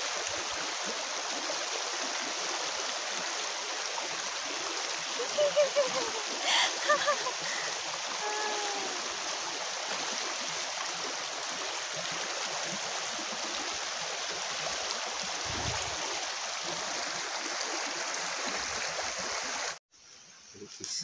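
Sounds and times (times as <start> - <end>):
river water rushing: 0.0 - 19.8.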